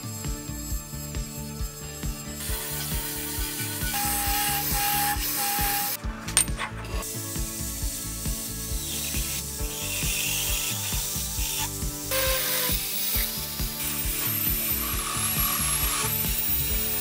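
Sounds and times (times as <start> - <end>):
power drill cutting steel: 0.0 - 17.0.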